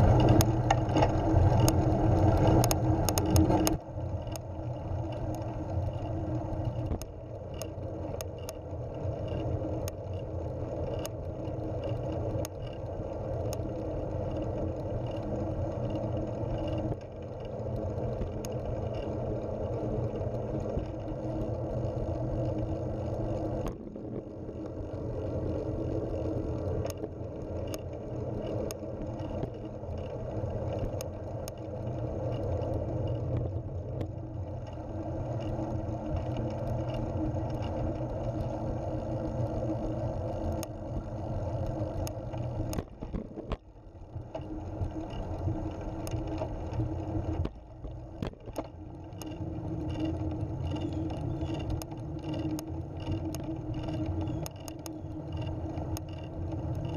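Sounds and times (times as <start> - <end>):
light clicks and rattles: 0.0 - 56.9.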